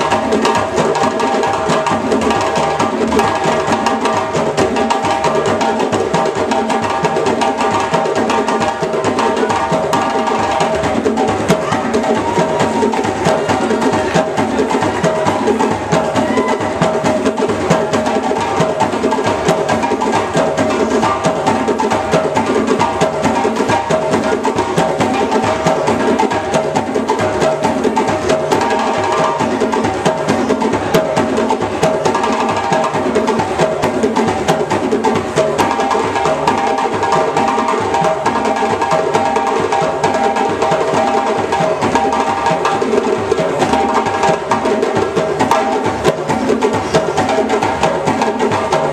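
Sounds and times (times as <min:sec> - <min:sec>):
hand drums playing steady rhythm: 0:00.0 - 0:48.9.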